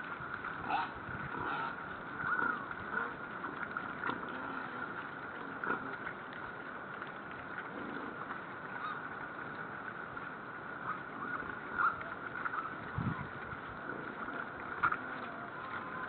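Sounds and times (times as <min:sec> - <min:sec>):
boars crunching and chewing: 0:00.1 - 0:16.0.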